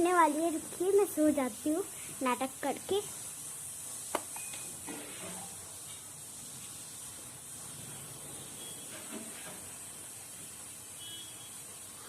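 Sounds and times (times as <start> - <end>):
high hiss: 0.0 - 9.0, 9.6 - 12.0.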